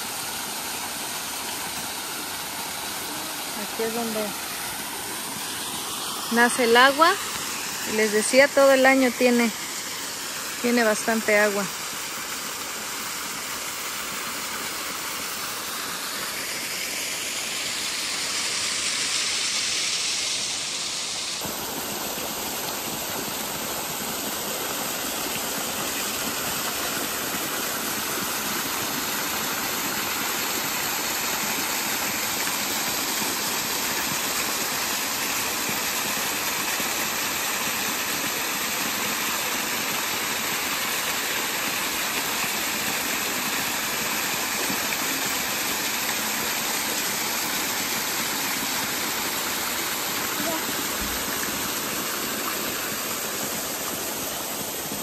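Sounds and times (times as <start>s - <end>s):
water gushing from a spout: 0.0s - 55.0s.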